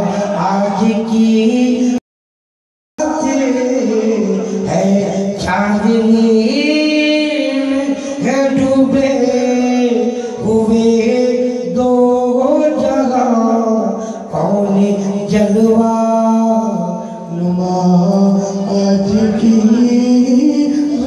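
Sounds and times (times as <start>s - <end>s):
man singing into a microphone: 0.0s - 2.0s, 3.0s - 21.0s.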